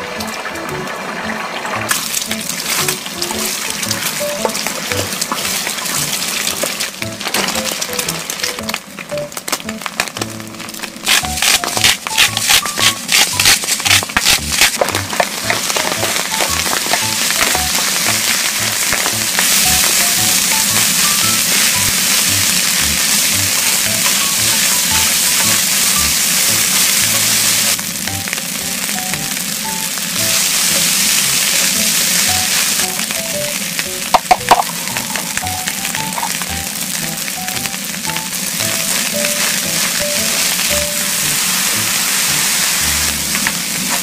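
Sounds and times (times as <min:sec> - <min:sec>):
rice sizzling on a griddle: 0:01.8 - 0:08.6, 0:10.8 - 0:44.0.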